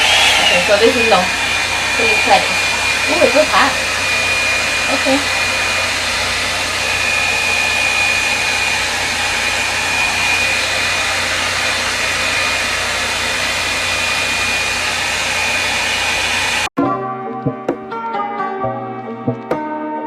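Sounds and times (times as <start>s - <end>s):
hot-air brush dryer running: 0.0s - 16.7s.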